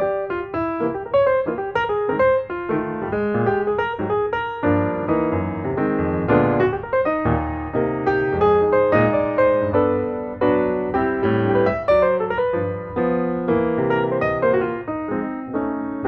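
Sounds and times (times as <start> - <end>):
piano melody over chords: 0.0 - 16.0.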